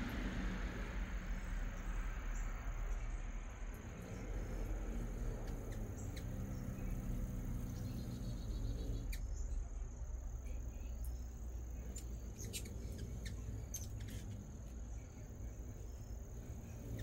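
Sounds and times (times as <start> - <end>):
insects trilling: 0.0 - 17.0
low drone: 0.0 - 17.0
low rumble: 0.0 - 17.0.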